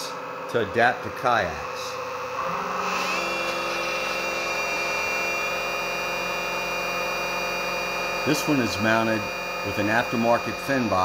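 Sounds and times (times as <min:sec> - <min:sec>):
electric thruster motor whirring: 0:00.0 - 0:11.0.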